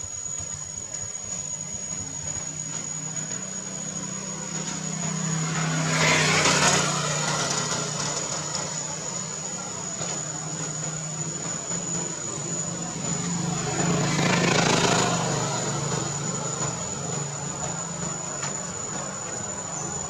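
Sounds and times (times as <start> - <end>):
high-pitched whine: 0.0 - 20.0
vehicle engine hum passing: 0.0 - 20.0.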